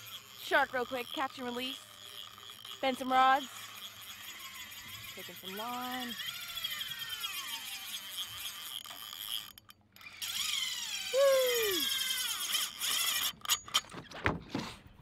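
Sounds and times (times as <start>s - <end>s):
fishing reel drag buzzing: 0.0s - 13.8s.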